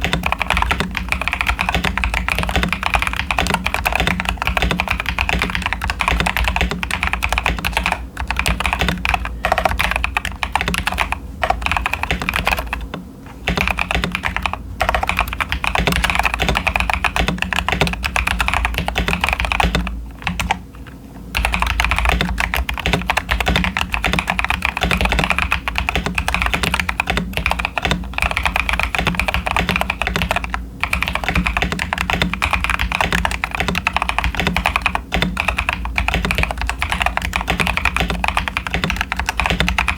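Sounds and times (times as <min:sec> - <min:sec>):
fast mechanical keyboard typing: 0:00.0 - 0:20.7, 0:21.3 - 0:39.9.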